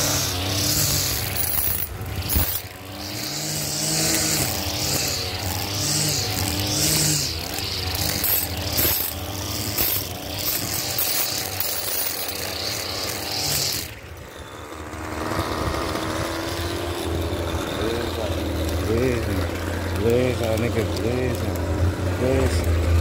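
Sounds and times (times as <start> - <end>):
string trimmer cutting grass: 0.0 - 23.0.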